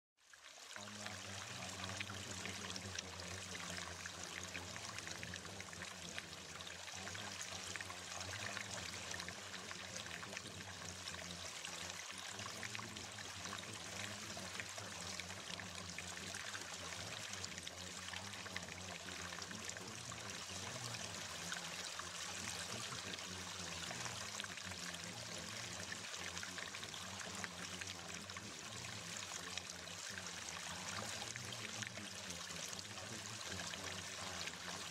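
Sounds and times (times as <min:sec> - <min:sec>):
running water: 0:00.2 - 0:34.9.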